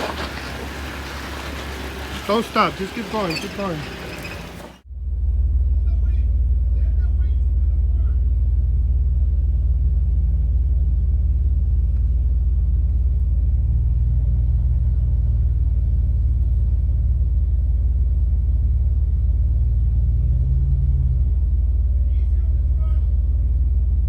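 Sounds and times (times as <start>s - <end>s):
engine running at low revs: 0.0s - 24.0s.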